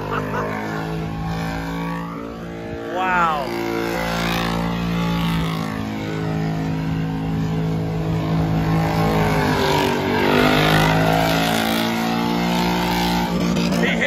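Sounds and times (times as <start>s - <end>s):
car engine revving high: 0.0s - 14.0s.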